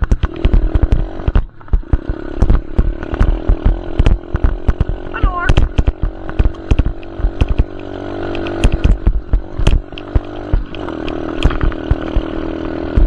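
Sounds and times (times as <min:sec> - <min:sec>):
dirt bike engine running: 0:00.0 - 0:13.0
sharp knocks and clicks: 0:00.0 - 0:13.0.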